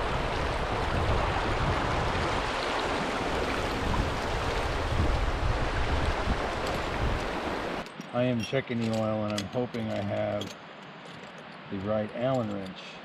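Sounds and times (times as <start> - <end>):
rushing river water: 0.0 - 13.0.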